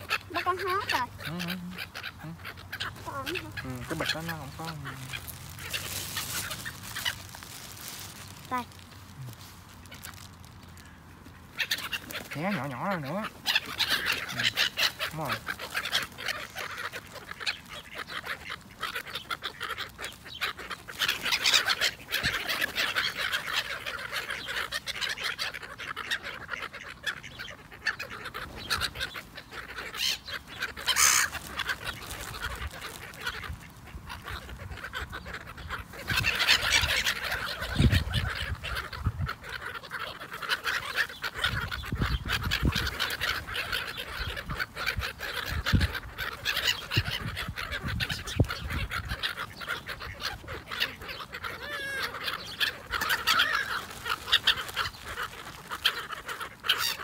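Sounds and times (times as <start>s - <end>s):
gulls calling: 0.0s - 57.0s.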